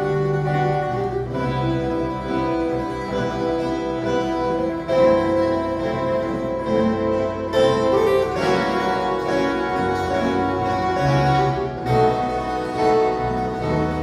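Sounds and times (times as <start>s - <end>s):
plucked steel string guitars: 0.0s - 14.0s.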